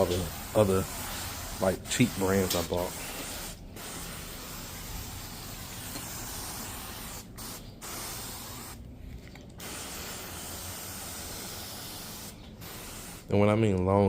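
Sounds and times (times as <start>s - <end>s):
sprayer hissing: 0.0s - 8.8s, 9.6s - 13.3s.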